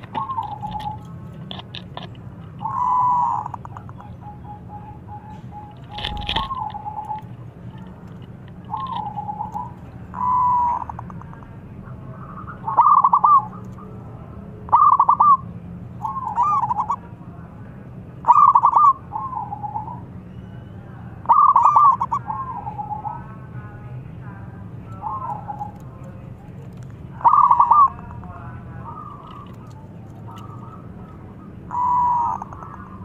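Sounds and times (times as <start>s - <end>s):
dove cooing: 0.0s - 17.1s, 18.2s - 20.0s, 21.2s - 23.7s, 24.9s - 33.0s.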